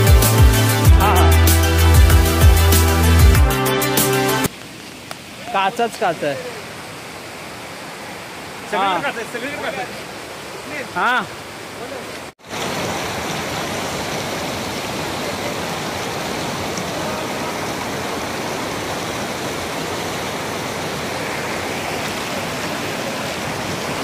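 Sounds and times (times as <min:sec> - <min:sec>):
stream rushing over rocks: 0:04.4 - 0:24.0.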